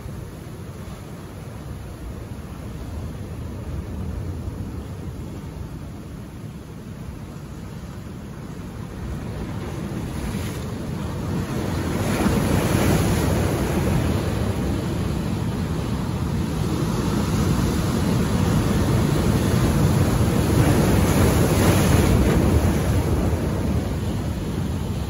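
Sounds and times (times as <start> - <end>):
ocean surf crashing on rocks: 0.0 - 25.0.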